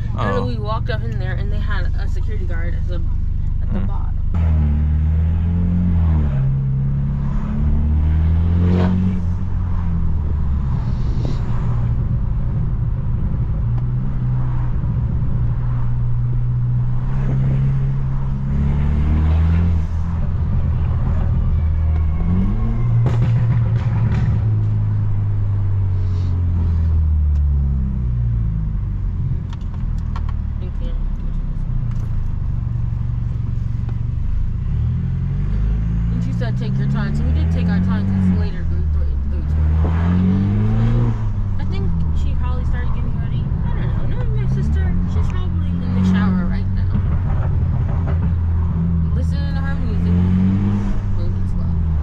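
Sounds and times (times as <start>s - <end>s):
car engine and loud exhaust: 0.0s - 52.0s
exhaust cracks: 0.0s - 52.0s.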